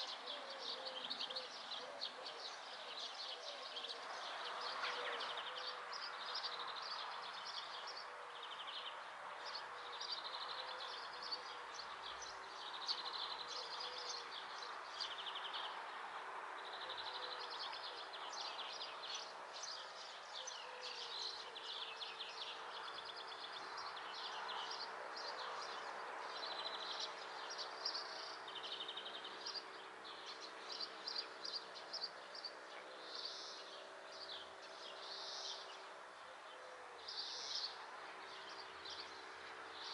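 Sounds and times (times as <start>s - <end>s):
background noise: 0.0s - 39.9s
songbirds twittering: 0.0s - 39.9s.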